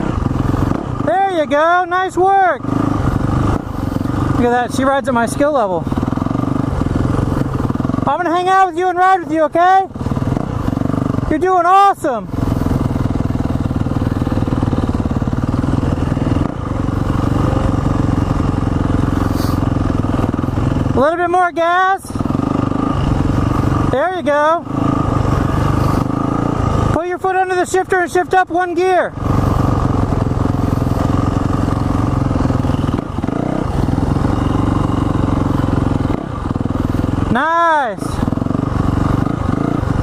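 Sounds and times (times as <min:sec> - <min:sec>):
dirt bike engine running: 0:00.0 - 0:40.0.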